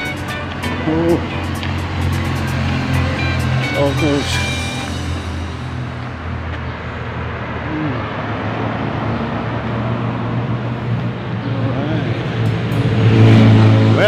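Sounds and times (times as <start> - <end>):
city street traffic rumble: 0.0 - 14.0.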